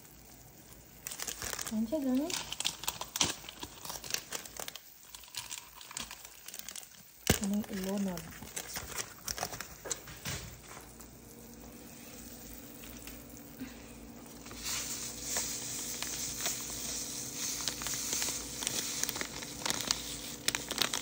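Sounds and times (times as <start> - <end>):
powder hissing into pot: 0.0 - 10.1, 10.8 - 21.0
broth simmering and bubbling: 0.0 - 21.0
faint steady hum: 0.0 - 21.0
plastic packet rustling: 1.0 - 21.0.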